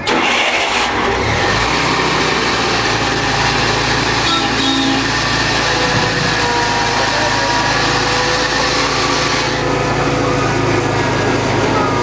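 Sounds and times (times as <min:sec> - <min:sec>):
miniature train engine hum: 0:00.0 - 0:12.0
train rolling rumble: 0:00.9 - 0:12.0.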